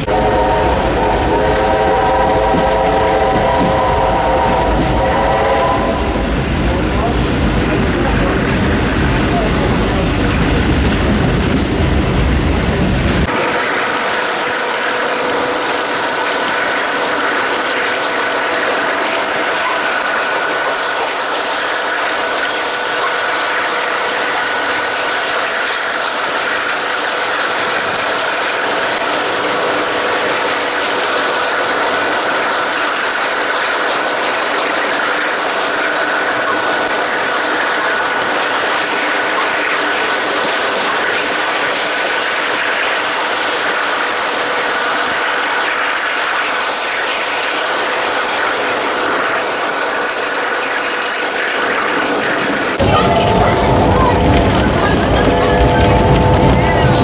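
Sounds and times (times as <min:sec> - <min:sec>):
wheel on rail rushing: 0:00.0 - 0:57.0
wind: 0:00.0 - 0:57.0.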